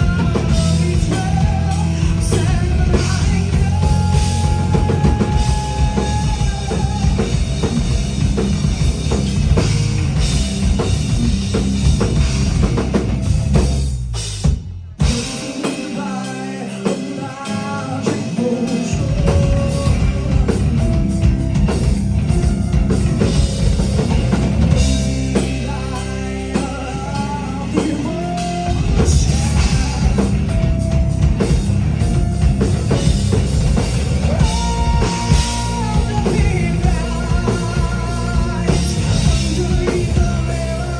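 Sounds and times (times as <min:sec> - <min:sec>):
electric guitar: 0:00.0 - 0:13.9, 0:15.0 - 0:40.9
bass guitar: 0:00.0 - 0:40.9
drums: 0:00.0 - 0:40.9.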